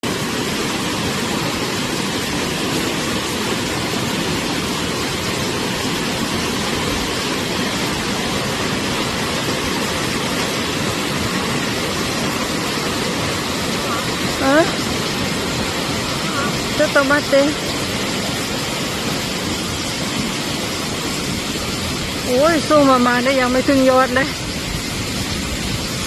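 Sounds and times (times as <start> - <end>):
waterfall roar: 0.0 - 26.0.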